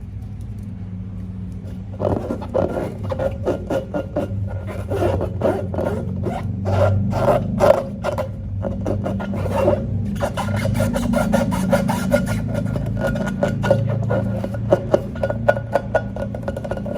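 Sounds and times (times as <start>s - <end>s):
slime rubbing and scraping: 1.7s - 16.9s.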